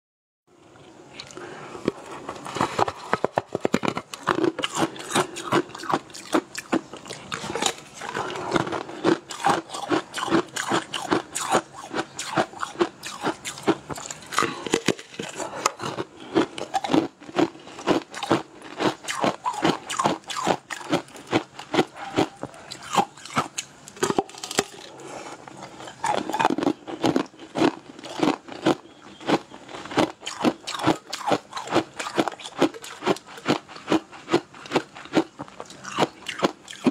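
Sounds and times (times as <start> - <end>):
crunching candy: 1.1 - 36.9.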